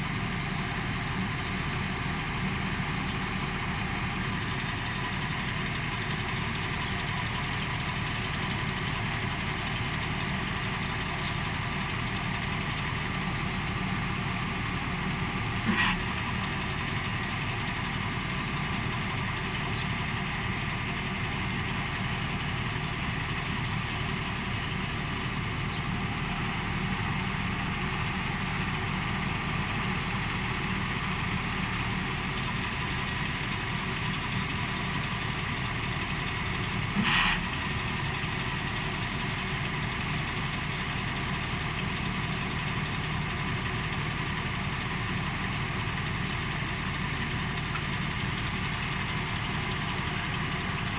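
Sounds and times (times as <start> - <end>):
small engine idling: 0.0 - 50.9.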